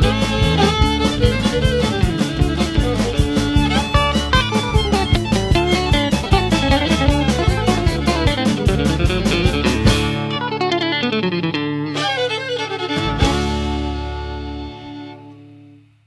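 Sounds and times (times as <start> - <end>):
country dance tune on guitar and fiddle: 0.0 - 15.8.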